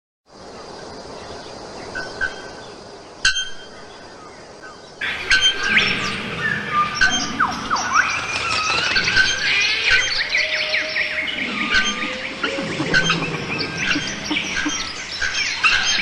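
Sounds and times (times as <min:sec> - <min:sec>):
birds chirping and calling: 0:00.4 - 0:16.0.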